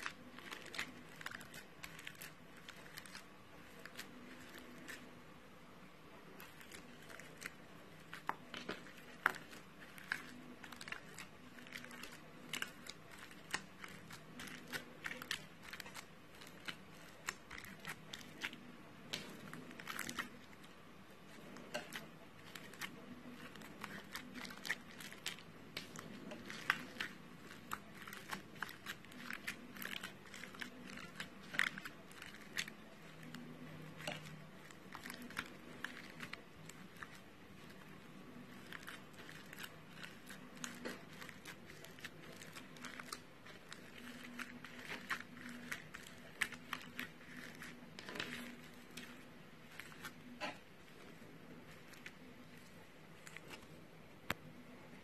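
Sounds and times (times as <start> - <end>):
crunchy slime crackling: 0.0 - 5.2, 6.2 - 55.0.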